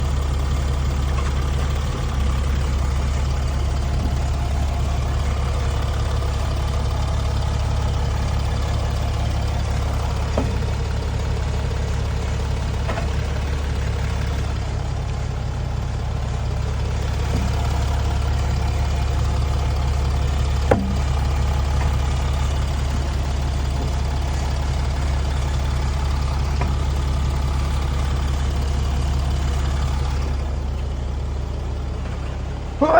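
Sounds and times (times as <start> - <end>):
car engine low drone: 0.0 - 32.9
wheel knocking: 0.2 - 30.5.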